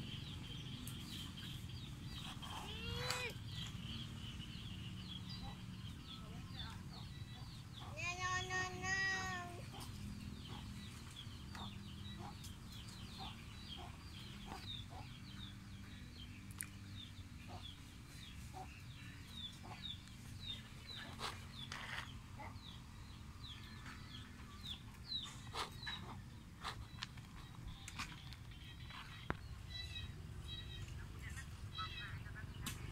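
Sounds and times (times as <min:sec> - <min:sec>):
bird chirping: 0:00.0 - 0:32.9.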